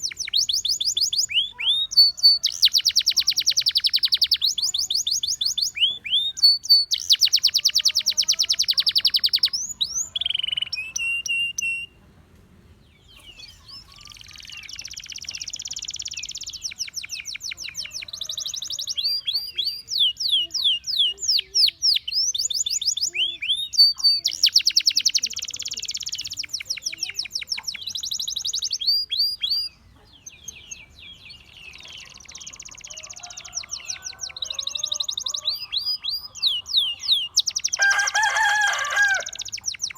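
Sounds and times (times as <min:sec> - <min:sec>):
canary singing trills: 0:00.0 - 0:12.0, 0:13.0 - 0:39.9.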